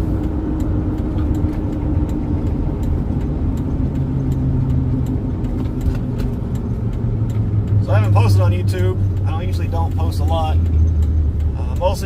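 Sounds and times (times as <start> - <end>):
faint regular ticking: 0.0 - 12.0
truck engine and road noise: 0.0 - 12.0.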